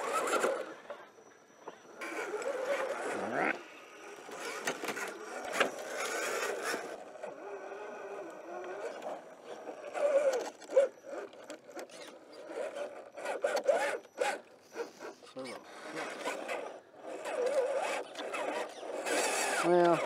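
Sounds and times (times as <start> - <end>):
toy car tyres scraping on rock: 0.0 - 0.9, 1.8 - 20.0.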